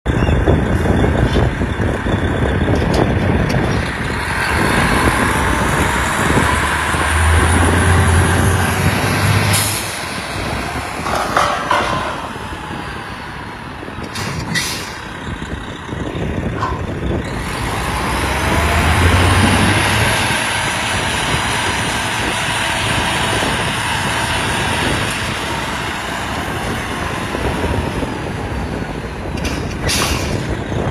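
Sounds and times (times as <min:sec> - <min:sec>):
diesel engine revving: 0:00.1 - 0:30.9.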